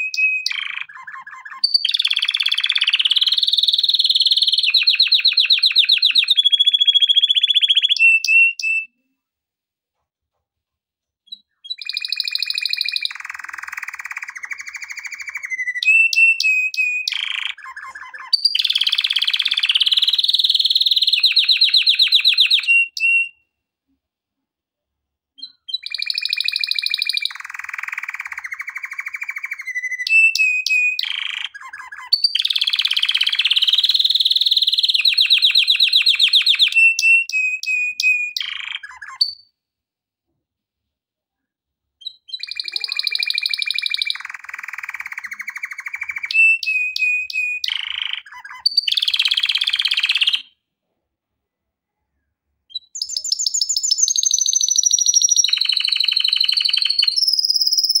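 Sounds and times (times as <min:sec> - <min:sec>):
canary singing: 0:00.0 - 0:09.1, 0:11.2 - 0:23.5, 0:25.4 - 0:39.5, 0:42.0 - 0:50.6, 0:52.7 - 0:58.0.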